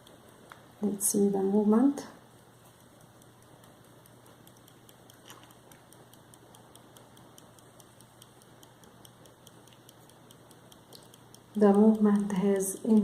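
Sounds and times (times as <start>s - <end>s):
pocket watch ticking: 0.0s - 0.7s, 2.4s - 13.0s.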